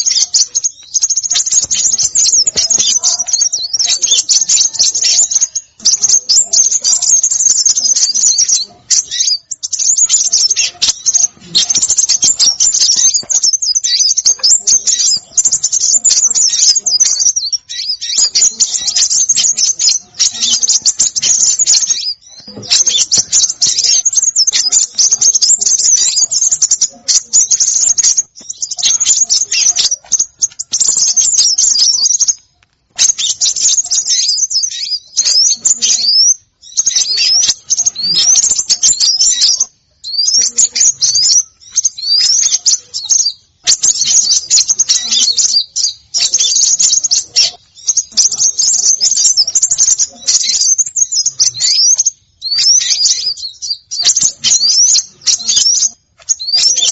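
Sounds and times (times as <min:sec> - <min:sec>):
small songbirds chirping: 0:00.0 - 0:56.9.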